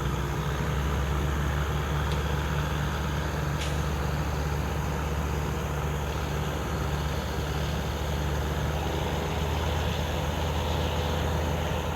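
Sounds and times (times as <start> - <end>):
heavy engine idling: 0.0 - 11.9.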